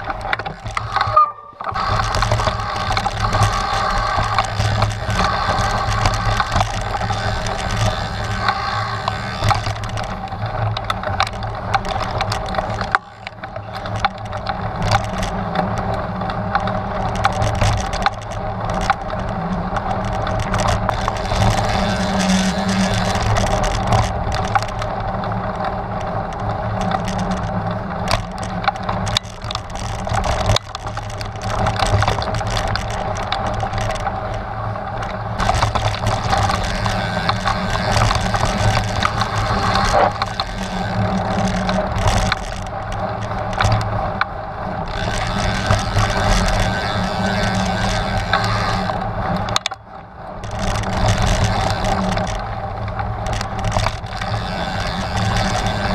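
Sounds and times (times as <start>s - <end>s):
bike rattling and clicking: 0.0s - 55.9s.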